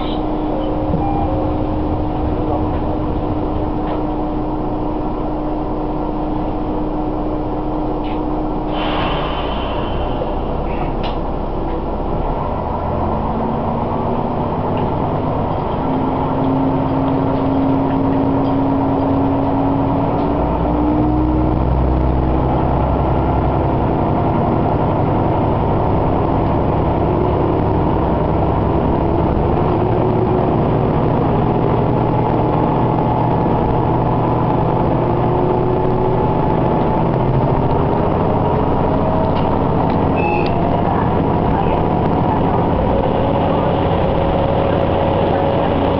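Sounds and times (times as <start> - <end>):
diesel railcar engine whine: 0.0 - 45.9
train wheel and rail noise: 0.0 - 45.9.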